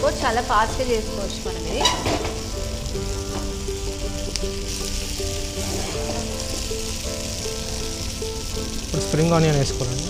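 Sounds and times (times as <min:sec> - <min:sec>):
background music: 0:00.0 - 0:10.0
food sizzling in a frying pan: 0:00.0 - 0:10.0.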